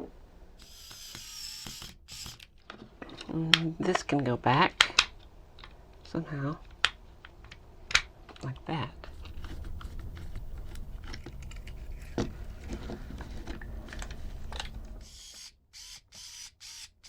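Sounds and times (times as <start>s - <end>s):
plastic parts clicking and rattling: 0.6s - 15.1s.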